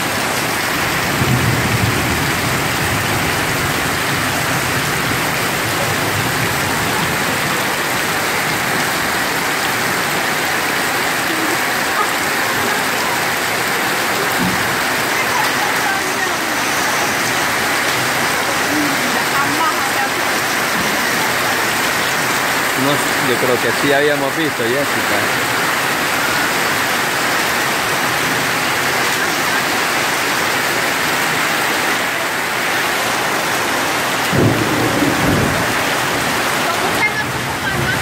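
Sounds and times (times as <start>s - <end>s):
heavy rain on street: 0.0s - 38.0s.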